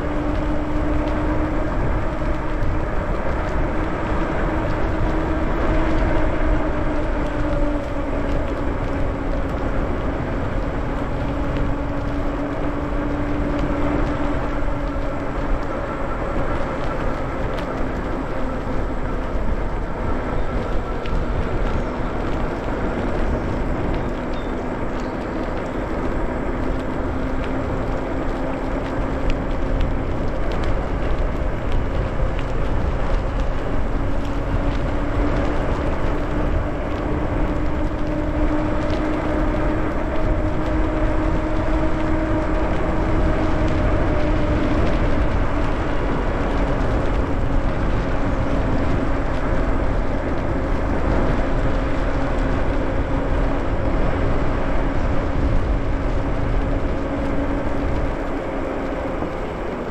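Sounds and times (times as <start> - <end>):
tyres rolling on wet pavement: 0.0 - 59.9
wind buffeting microphone: 0.0 - 59.9.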